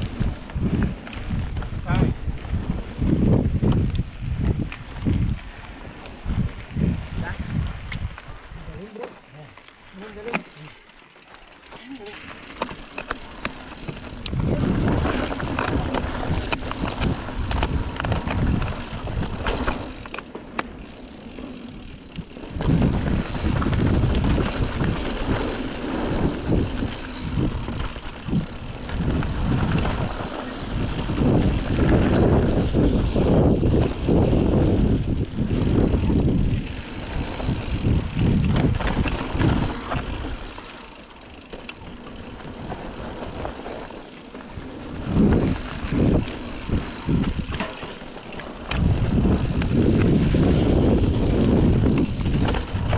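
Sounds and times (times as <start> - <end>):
wind rushing over microphone: 0.0 - 8.9, 13.7 - 20.0, 21.7 - 52.9
bike clicks and rattles: 0.0 - 52.9
tyres rolling on dirt trail: 0.0 - 52.9.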